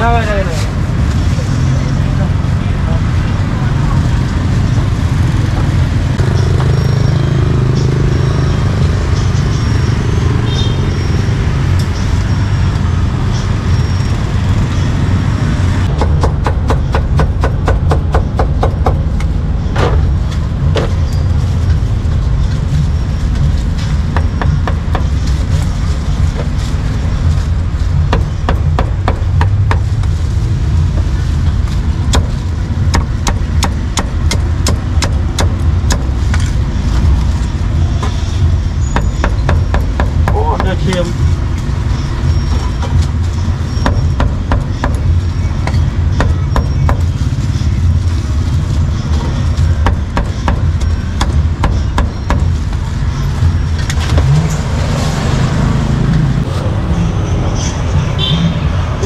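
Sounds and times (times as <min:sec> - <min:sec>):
low street noise: 0:00.0 - 0:59.0.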